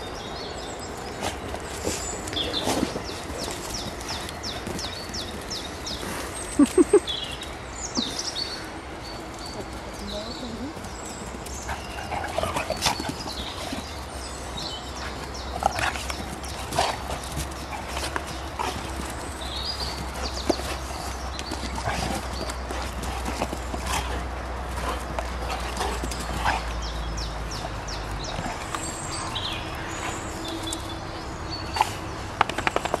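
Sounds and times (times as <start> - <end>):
dogs scuffling on grass: 0.0 - 33.0.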